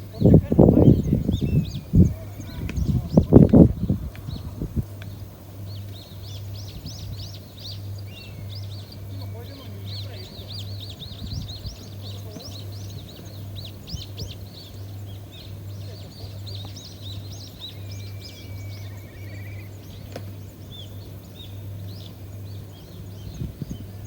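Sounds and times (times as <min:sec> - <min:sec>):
low rumble: 0:00.0 - 0:24.0
small birds chirping: 0:00.0 - 0:24.0
steady low hum: 0:00.0 - 0:24.0
bird trill: 0:00.1 - 0:04.5, 0:05.1 - 0:24.0.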